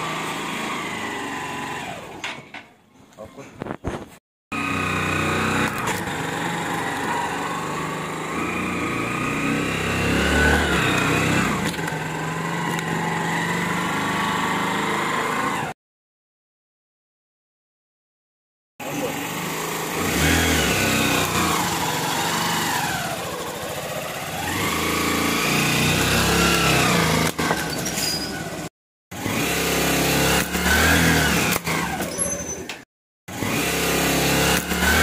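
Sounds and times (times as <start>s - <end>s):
motorcycle engine revving: 0.0s - 2.2s, 4.5s - 15.8s, 18.8s - 35.0s.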